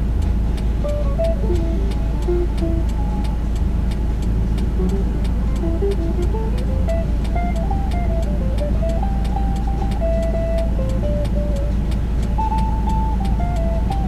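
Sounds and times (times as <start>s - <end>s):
car engine rumble: 0.0s - 14.0s
music with ticking beat: 0.0s - 14.0s.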